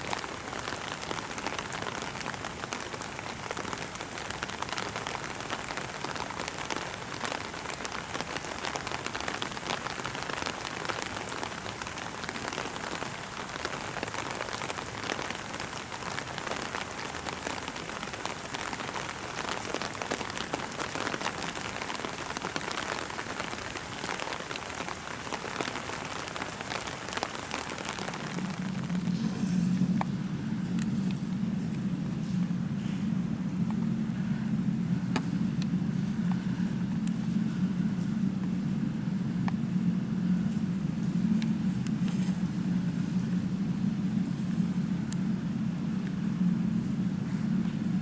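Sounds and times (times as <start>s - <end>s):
low steady hum: 0.0s - 48.0s
steady rain: 0.0s - 48.0s.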